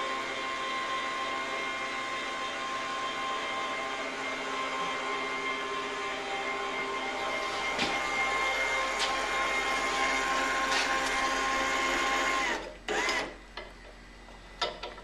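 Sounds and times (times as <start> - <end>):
steady machine hum: 0.0 - 14.9.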